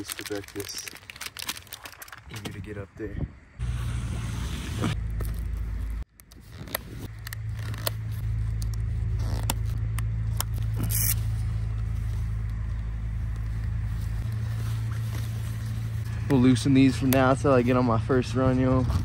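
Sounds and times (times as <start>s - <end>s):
low hum: 3.5s - 19.0s.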